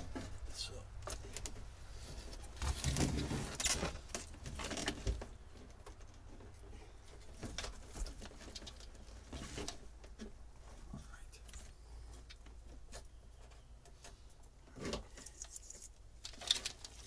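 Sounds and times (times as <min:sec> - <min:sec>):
wires rustling and clicking: 0:00.0 - 0:17.0.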